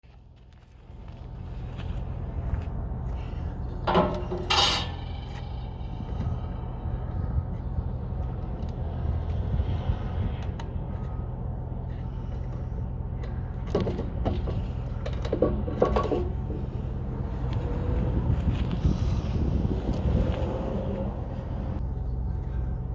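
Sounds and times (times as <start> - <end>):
low engine rumble: 0.0 - 22.9.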